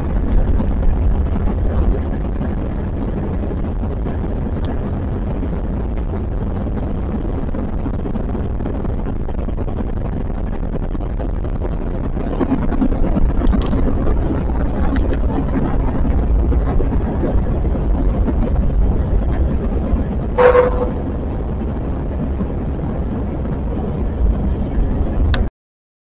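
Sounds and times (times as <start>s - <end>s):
jet engine and runway rumble: 0.0s - 25.5s.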